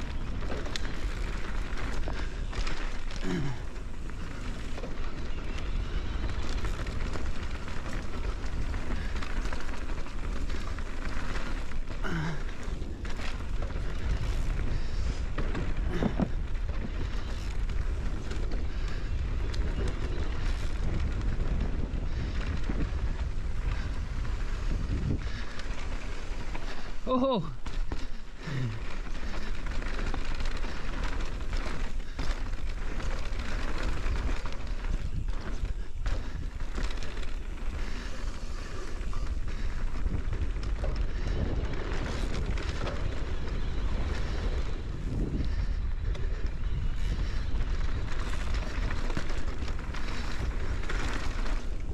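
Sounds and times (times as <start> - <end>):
bike clattering over bumps: 0.0 - 51.9
tyres crunching over dirt: 0.0 - 51.9
wind buffeting microphone: 0.0 - 51.9.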